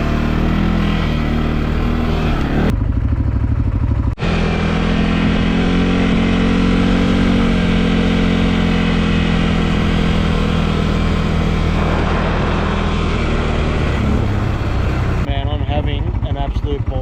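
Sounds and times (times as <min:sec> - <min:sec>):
quad bike engine running: 0:00.0 - 0:17.0
road and wind noise: 0:00.0 - 0:17.0.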